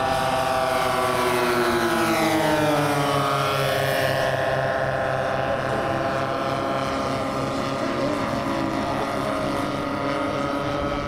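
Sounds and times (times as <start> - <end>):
model plane engines droning: 0.0 - 11.0.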